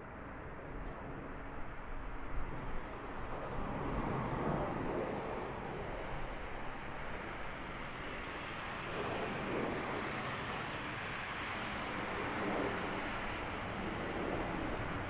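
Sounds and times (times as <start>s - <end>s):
jet engines roaring: 0.6s - 15.0s.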